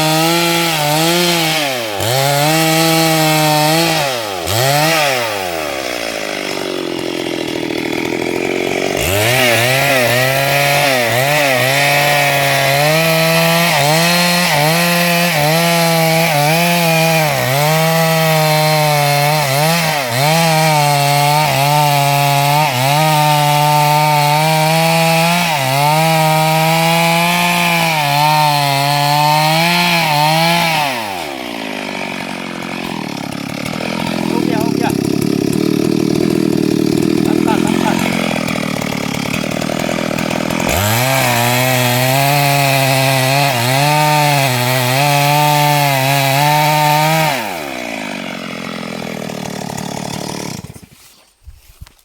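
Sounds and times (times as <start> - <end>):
chainsaw cutting a log: 0.0 - 52.0.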